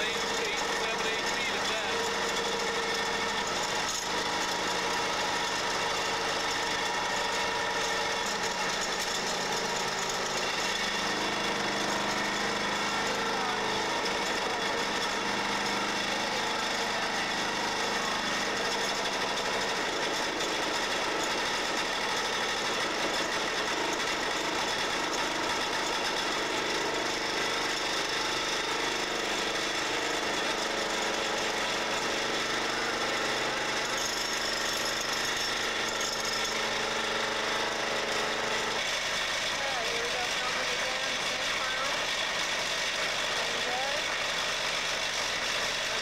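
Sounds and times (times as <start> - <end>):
vibratory pile driver rattling: 0.0 - 46.0.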